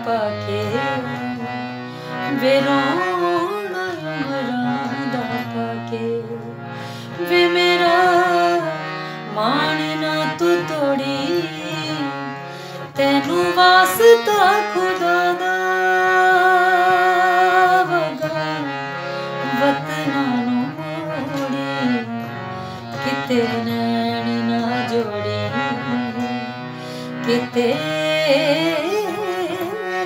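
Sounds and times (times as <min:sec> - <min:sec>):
woman singing: 0:00.0 - 0:01.6, 0:02.2 - 0:18.7, 0:19.4 - 0:26.6, 0:27.2 - 0:30.0
instrumental backing music: 0:00.0 - 0:30.0.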